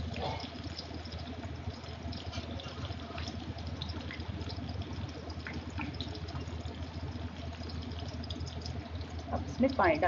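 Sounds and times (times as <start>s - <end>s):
hot oil sizzling in a pan: 0.0s - 10.0s
low steady hum: 0.0s - 10.0s.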